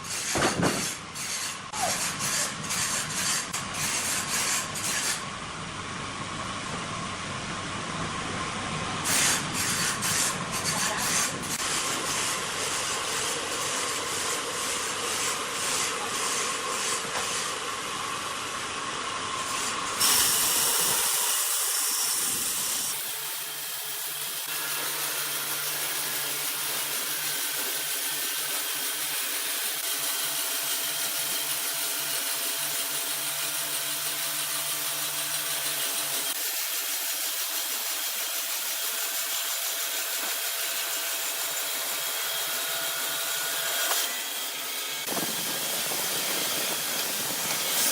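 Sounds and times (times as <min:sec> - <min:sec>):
woodworking machinery running: 0:08.2 - 0:47.9.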